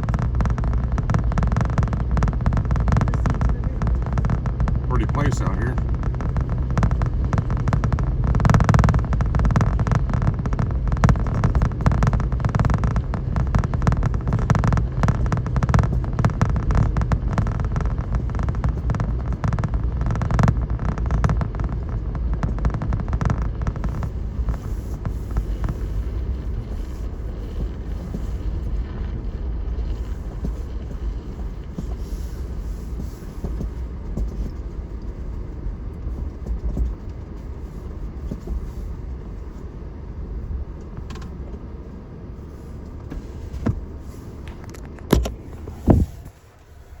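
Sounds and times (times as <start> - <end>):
engine and road noise rumble: 0.0 - 47.0.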